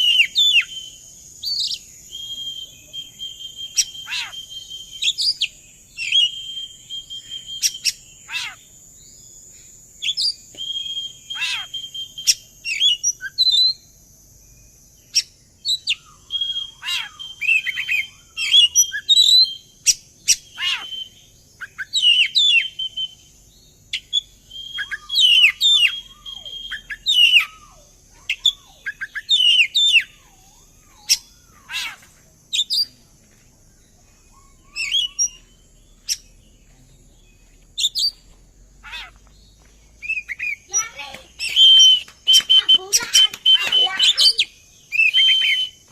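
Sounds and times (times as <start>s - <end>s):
bird singing whistles and chirps: 0.0s - 9.3s, 10.0s - 13.8s, 14.6s - 33.0s, 33.8s - 45.9s.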